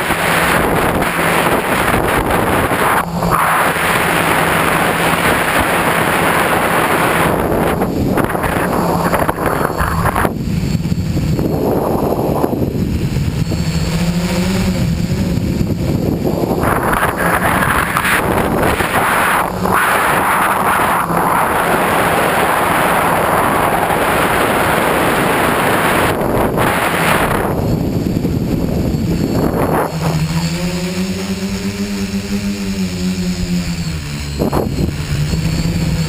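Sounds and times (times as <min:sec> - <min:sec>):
drone motors and propellers buzzing: 0:00.0 - 0:36.0
wind rushing over microphone: 0:00.0 - 0:36.0.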